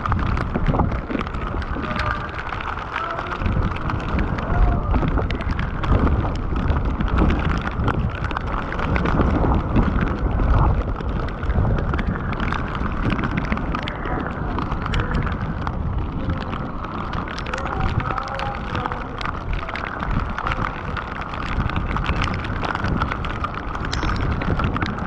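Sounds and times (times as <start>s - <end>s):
heavy rain: 0.0s - 25.0s
raindrops ticking on hard surfaces: 0.0s - 25.0s
wind buffeting microphone: 0.0s - 25.0s.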